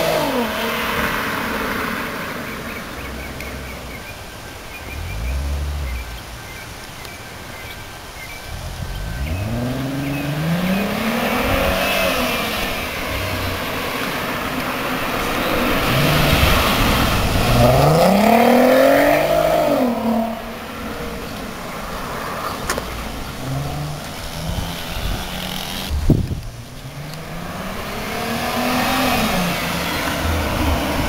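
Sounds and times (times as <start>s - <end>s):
car engine revving: 0.0s - 7.0s, 8.4s - 31.0s.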